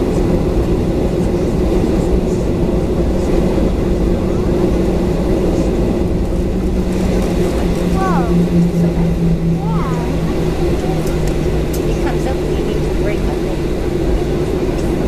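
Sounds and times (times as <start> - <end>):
broad rushing noise: 0.0 - 15.0
jet engine low hum: 0.0 - 15.0.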